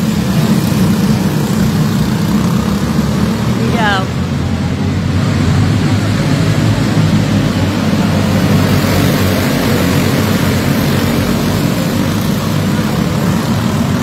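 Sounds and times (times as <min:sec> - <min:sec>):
kart engines buzzing: 0:00.0 - 0:14.0.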